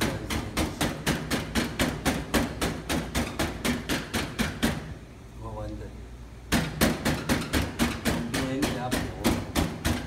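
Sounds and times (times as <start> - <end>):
palm patting dough on steel: 0.0 - 5.0, 6.5 - 10.0.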